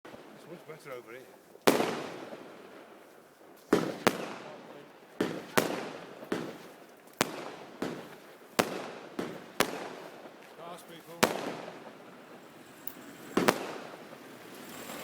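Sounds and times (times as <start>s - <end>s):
fireworks exploding: 0.1s - 15.0s.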